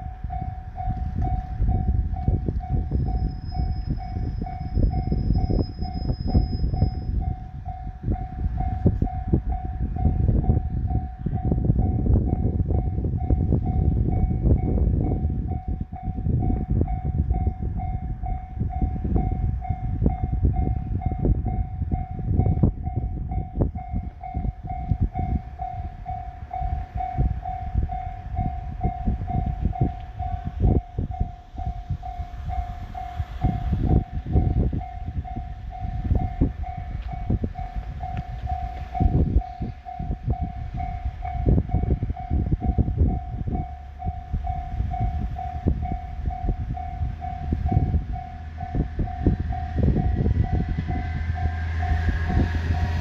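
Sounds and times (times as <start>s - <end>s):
level crossing warning bell: 0.0s - 53.0s
railcar rumbling and knocking: 0.0s - 53.0s.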